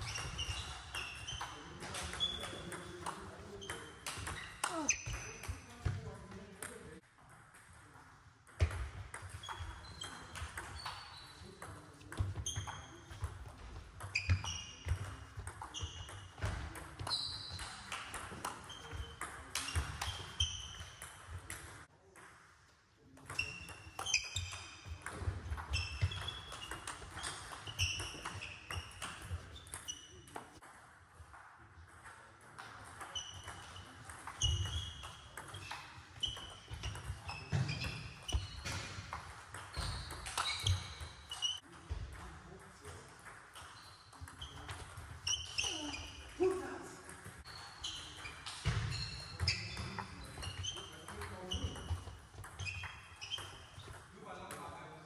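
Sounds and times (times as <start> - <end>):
shoes squeaking on floor: 0.0 - 6.4, 9.3 - 21.3, 23.2 - 30.6, 33.0 - 41.8, 43.6 - 54.7.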